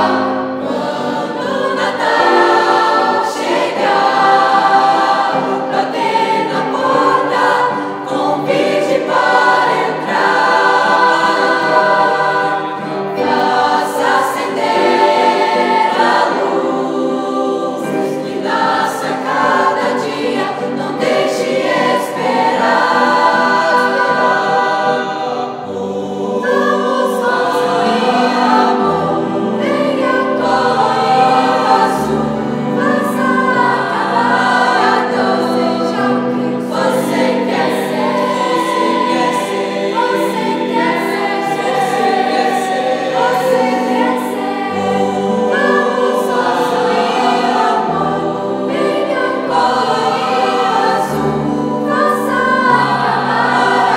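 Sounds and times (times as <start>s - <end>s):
mixed choir singing: 0.0s - 53.9s.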